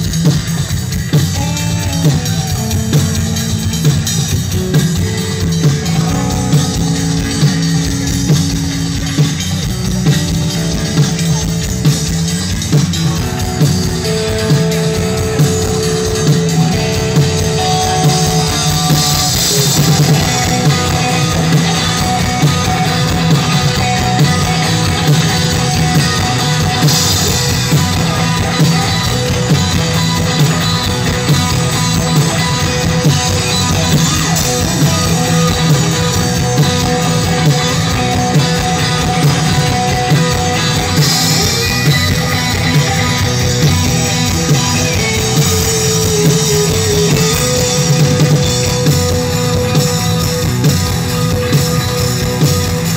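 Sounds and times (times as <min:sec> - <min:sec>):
drums: 0:00.0 - 0:52.9
electric guitars: 0:00.0 - 0:52.9.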